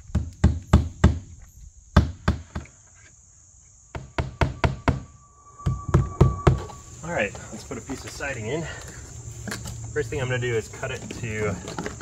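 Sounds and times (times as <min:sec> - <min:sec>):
insects buzzing: 0:00.2 - 0:12.0.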